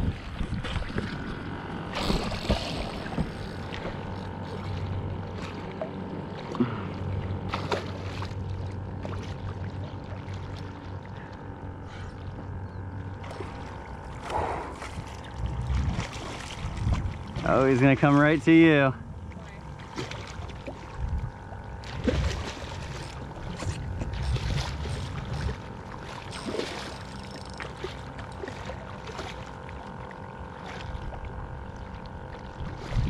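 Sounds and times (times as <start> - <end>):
water lapping against paddleboard: 0.0 - 33.0.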